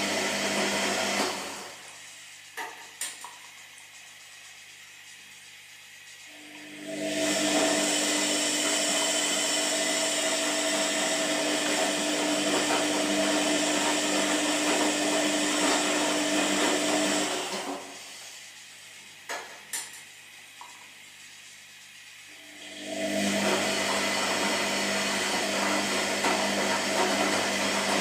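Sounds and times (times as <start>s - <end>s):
washing machine motor whining: 0.0s - 28.0s.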